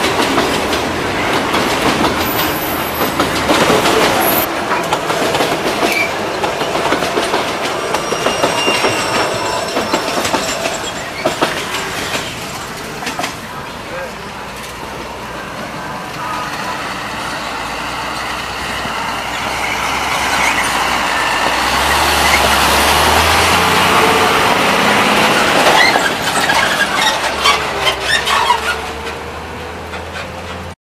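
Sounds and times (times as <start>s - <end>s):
lorry diesel engine humming: 0.0s - 30.8s
road traffic: 0.0s - 30.8s.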